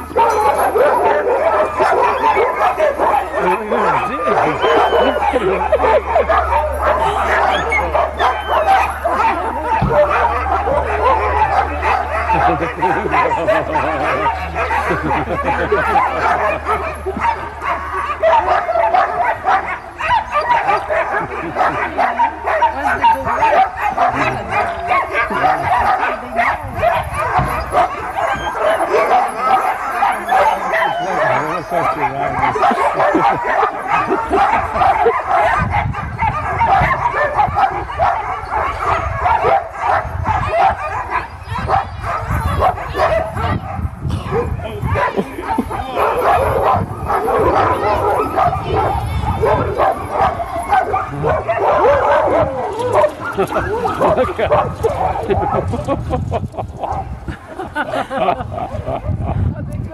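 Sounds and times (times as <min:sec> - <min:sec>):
dogs barking and yipping: 0:00.0 - 0:59.9.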